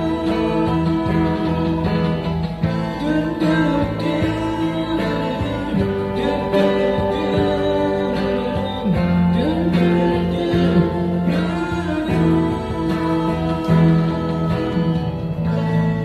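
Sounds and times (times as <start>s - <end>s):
sliding held melody notes: 0.0s - 16.0s
strummed acoustic guitars: 0.0s - 16.0s.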